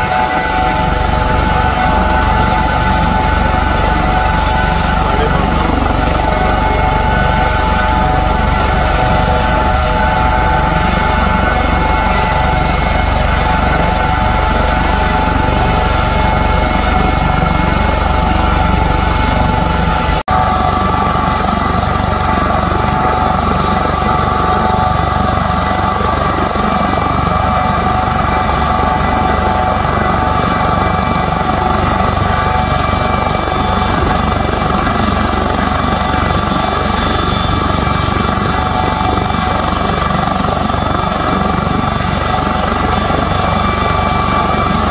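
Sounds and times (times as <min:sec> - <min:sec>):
helicopter turbine whine: 0:00.0 - 0:44.9.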